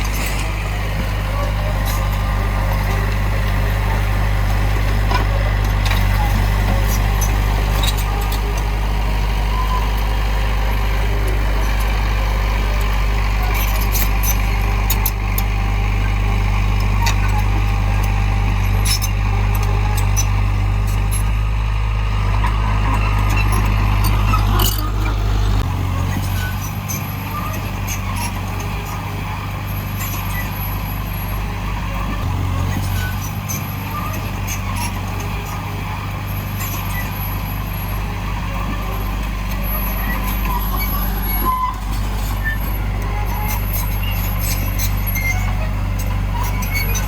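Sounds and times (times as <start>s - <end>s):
heavy diesel engine rumbling: 0.0s - 47.0s.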